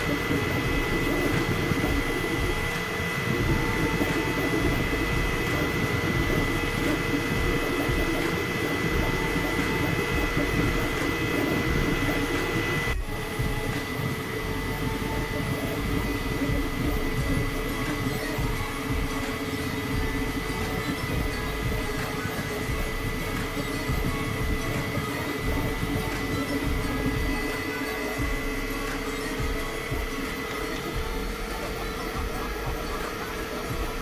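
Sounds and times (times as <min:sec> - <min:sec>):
dense mechanical hum: 0:00.0 - 0:34.0
printer fans and motors whine: 0:00.0 - 0:34.0.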